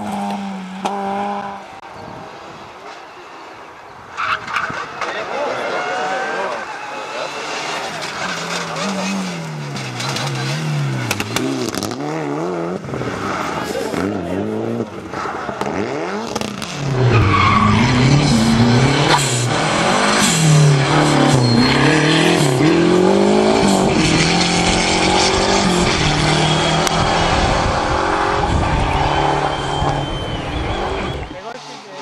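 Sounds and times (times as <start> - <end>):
rally car engines revving: 0.0 - 3.0, 4.1 - 32.0
tyres skidding: 0.0 - 32.0.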